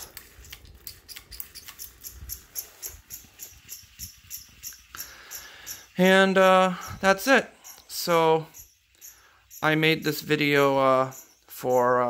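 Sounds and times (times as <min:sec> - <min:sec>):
rhythmic high-pitched squeak: 0:01.1 - 0:12.0.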